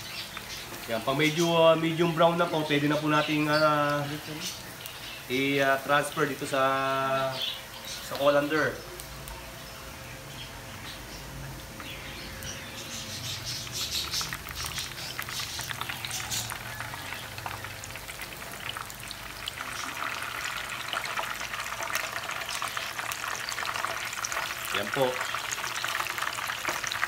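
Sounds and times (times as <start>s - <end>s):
hot oil sizzling and popping: 0.0s - 27.0s.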